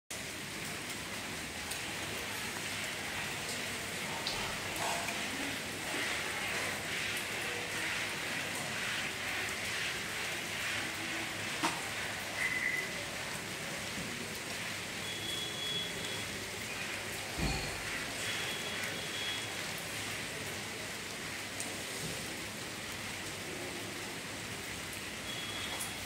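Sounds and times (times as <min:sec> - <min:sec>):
steady rain falling: 0:00.1 - 0:26.0.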